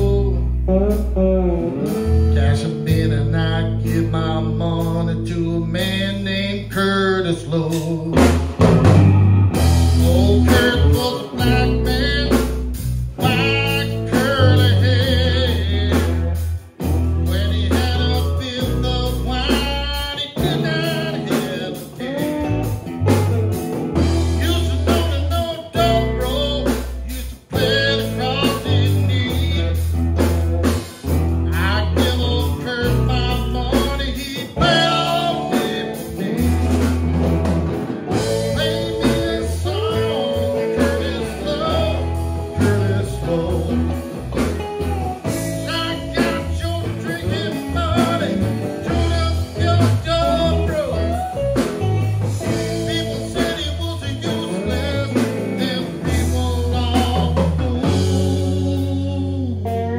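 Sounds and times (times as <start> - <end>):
live blues-rock band: 0.0 - 59.9.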